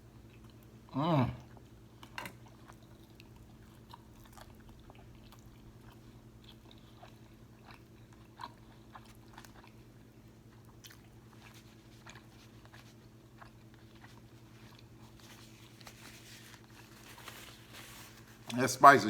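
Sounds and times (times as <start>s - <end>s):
crunchy chewing: 1.4s - 18.6s.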